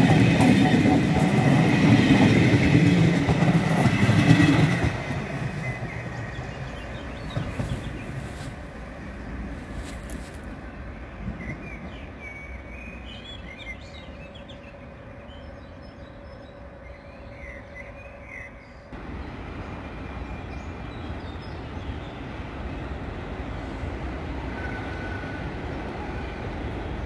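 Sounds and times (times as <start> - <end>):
birds chirping: 0.0 - 9.5, 10.8 - 27.0
freight train rumble: 0.0 - 27.0
passenger train rumble: 0.0 - 27.0.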